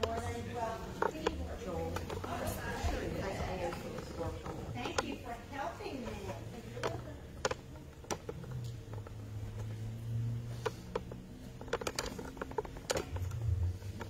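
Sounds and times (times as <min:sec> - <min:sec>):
light clicks and taps: 0:00.0 - 0:14.0
low room hum: 0:00.0 - 0:14.0.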